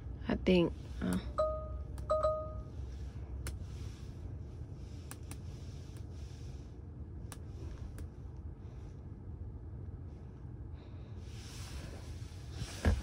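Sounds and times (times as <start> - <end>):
low cabin rumble: 0.0 - 13.0.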